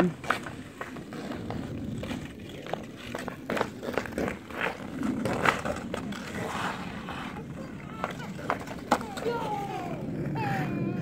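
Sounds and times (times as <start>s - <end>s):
skate blades scraping ice: 0.0s - 11.0s
hockey sticks and puck clacking: 0.2s - 9.8s.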